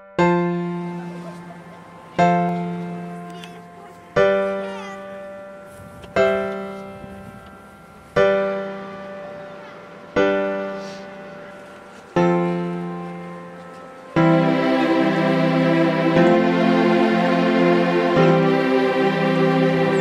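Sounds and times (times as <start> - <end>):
slow piano chords: 0.0 - 20.0.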